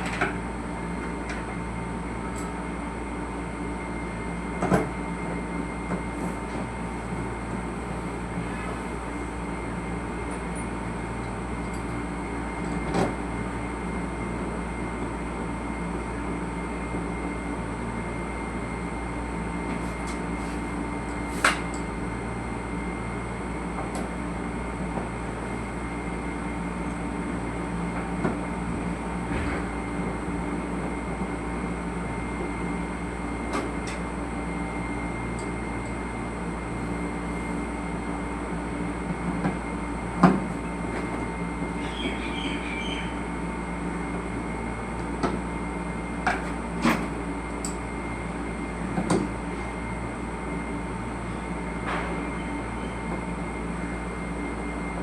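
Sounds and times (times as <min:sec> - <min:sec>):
machine droning: 0:00.0 - 0:55.0.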